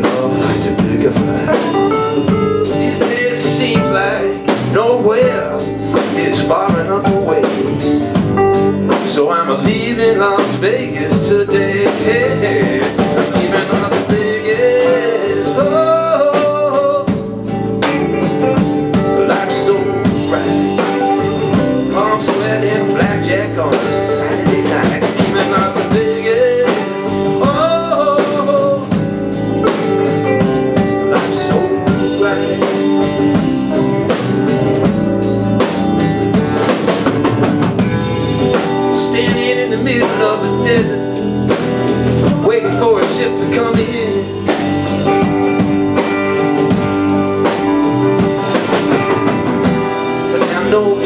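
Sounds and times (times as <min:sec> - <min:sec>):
live band music: 0:00.0 - 0:51.0.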